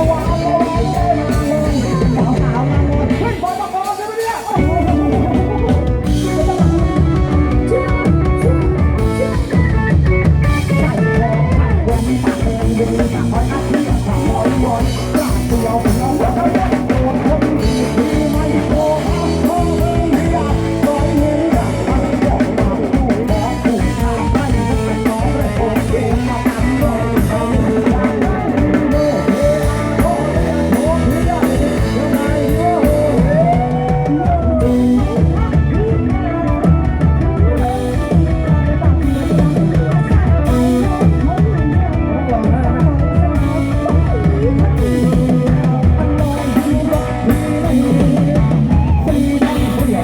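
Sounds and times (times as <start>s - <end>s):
drum kit: 0.0s - 50.0s
guitar: 0.0s - 50.0s
loud rock band music: 0.0s - 50.0s
person singing: 0.0s - 50.0s.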